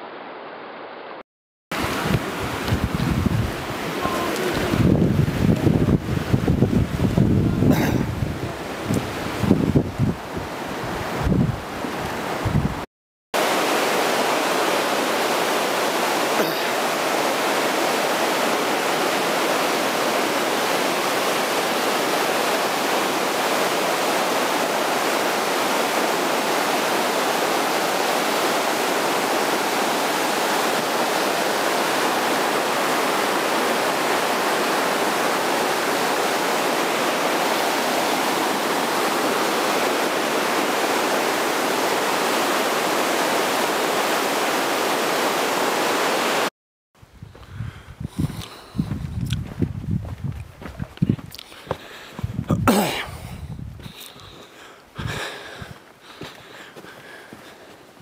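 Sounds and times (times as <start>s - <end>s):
river rushing over rapids: 1.8s - 12.8s, 13.4s - 46.5s, 54.2s - 58.0s.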